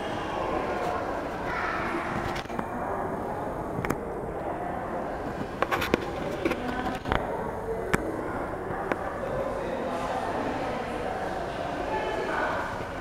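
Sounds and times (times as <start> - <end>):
indoor hall hubbub: 0.0 - 13.0.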